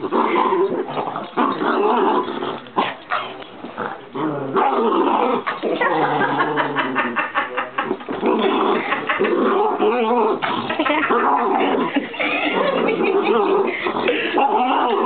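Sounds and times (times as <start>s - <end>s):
small dog growling: 0.0s - 15.0s.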